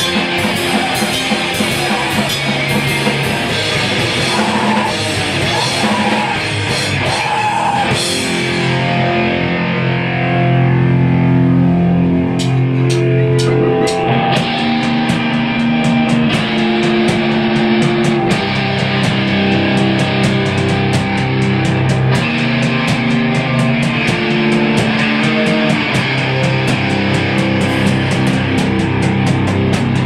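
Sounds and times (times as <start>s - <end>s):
distorted electric guitar: 0.0s - 30.0s
drum kit: 0.0s - 30.0s.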